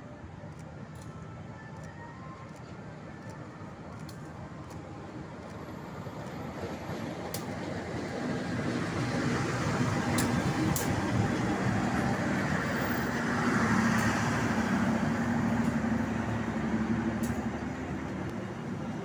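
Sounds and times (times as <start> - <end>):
train wheels rumbling on rails: 2.5 - 19.0.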